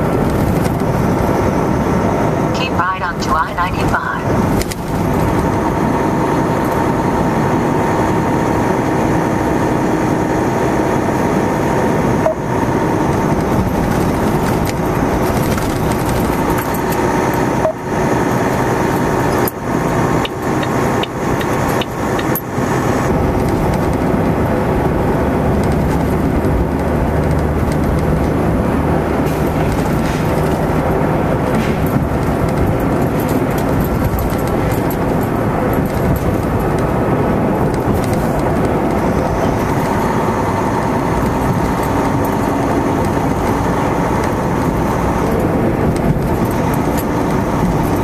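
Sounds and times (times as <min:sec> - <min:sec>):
road noise: 0:00.0 - 0:48.0
truck diesel engine droning: 0:00.0 - 0:48.0.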